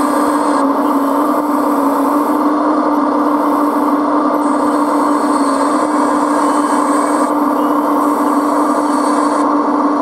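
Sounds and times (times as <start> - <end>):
hydraulic whine and hum: 0.0 - 10.0.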